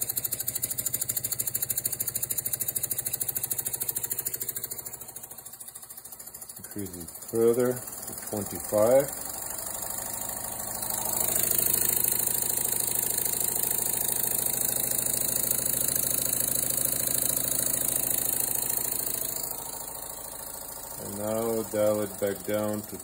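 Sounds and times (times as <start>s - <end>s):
small steam engine chuffing: 0.0s - 23.0s.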